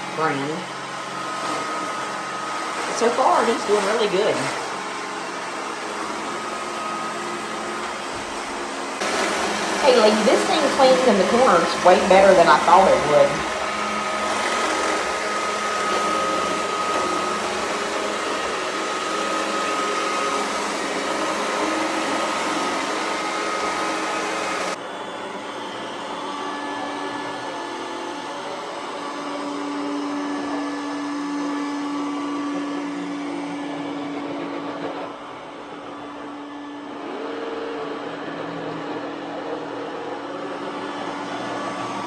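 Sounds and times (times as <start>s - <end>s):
robot vacuum whirring: 0.0s - 42.0s.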